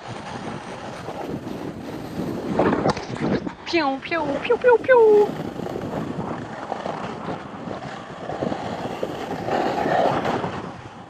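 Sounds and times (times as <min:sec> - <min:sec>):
board sliding over snow: 0:00.0 - 0:11.0
wind buffeting microphone: 0:00.0 - 0:11.0.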